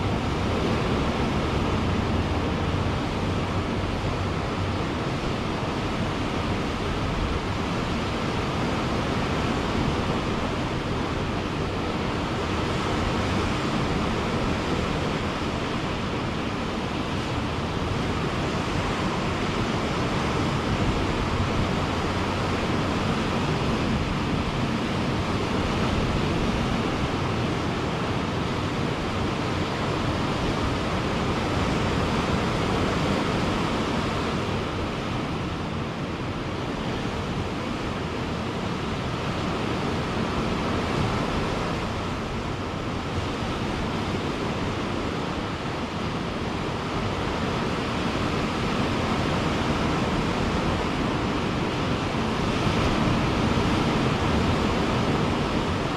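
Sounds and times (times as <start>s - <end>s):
ocean surf on beach: 0.0s - 55.9s.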